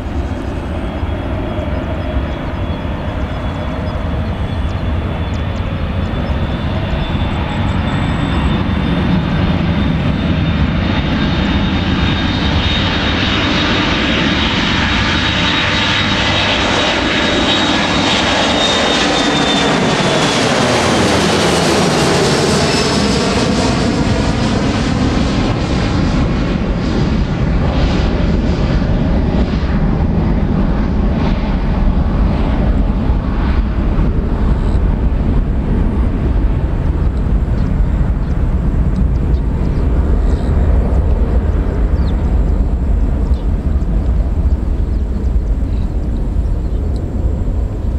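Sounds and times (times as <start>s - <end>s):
jet engines at takeoff: 0.0s - 47.9s.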